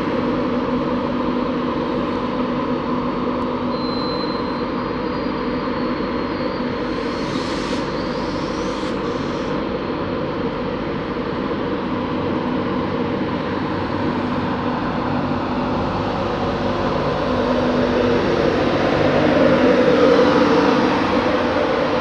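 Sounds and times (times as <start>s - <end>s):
electric locomotive humming: 0.0s - 22.0s.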